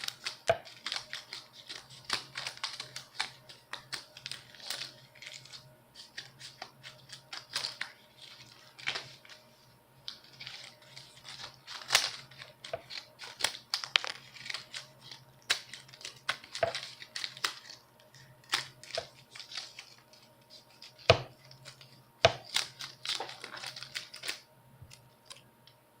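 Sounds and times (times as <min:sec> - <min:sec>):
scissors cutting paper: 0:00.0 - 0:09.4, 0:10.1 - 0:25.4.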